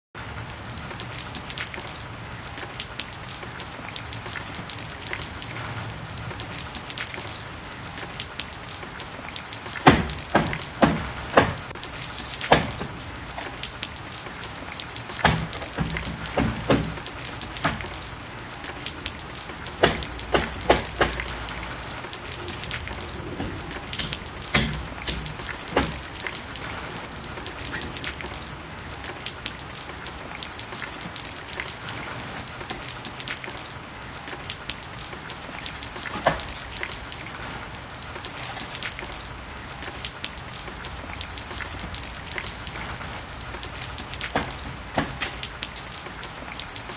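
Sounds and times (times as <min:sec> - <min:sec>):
rain drops on hard surface: 0:00.2 - 0:46.9.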